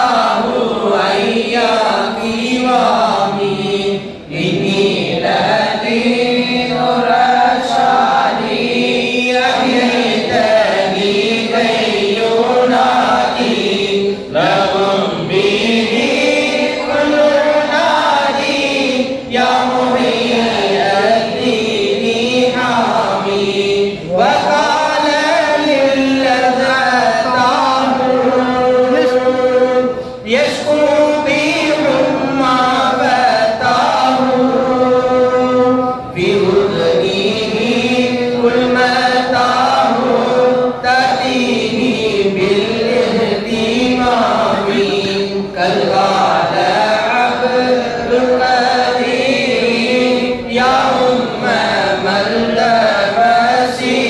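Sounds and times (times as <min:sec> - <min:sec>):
man chanting devotional recitation: 0:00.0 - 0:54.0.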